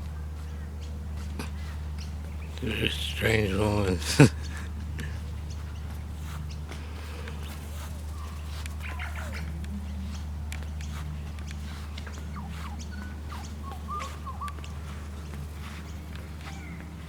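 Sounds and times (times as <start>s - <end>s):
birds chirping and squawking: 0.0s - 17.0s
steady low hum: 0.0s - 17.0s.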